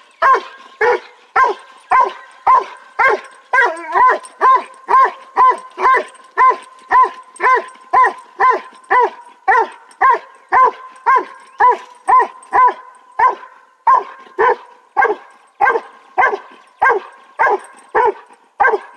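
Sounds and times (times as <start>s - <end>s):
dog barking: 0.2s - 18.9s.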